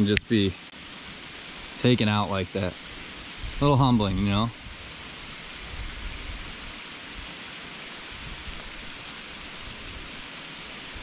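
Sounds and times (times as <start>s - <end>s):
steady hiss of water: 0.0s - 11.0s.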